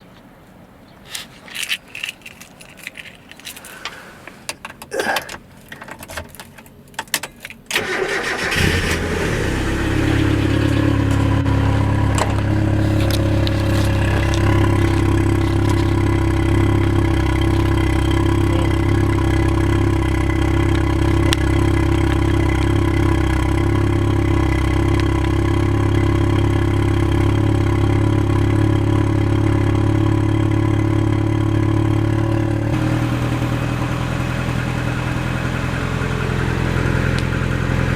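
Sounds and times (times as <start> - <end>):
car engine starting and idling: 3.4 - 37.9.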